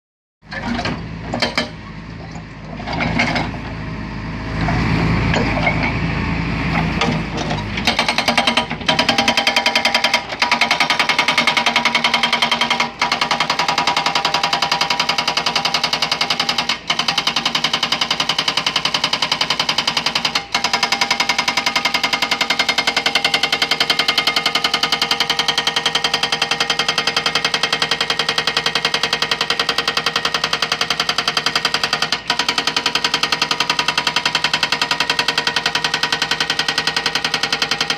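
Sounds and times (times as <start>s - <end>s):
hydraulic breaker hammering concrete: 7.0s - 37.9s.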